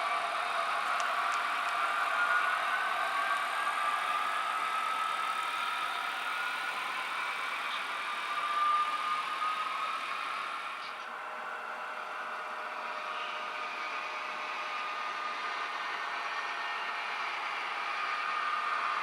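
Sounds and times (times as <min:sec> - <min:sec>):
model locomotive engine whine: 0:00.0 - 0:19.0.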